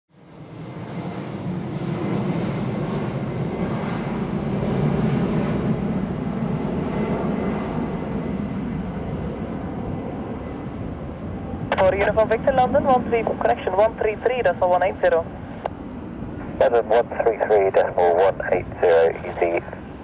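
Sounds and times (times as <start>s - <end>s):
jet engines rumbling: 0.2s - 20.0s.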